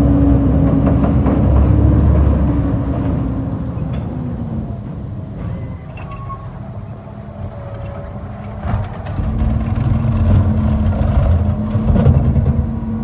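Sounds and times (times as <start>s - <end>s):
garbage truck engine rumbling: 0.0s - 13.0s.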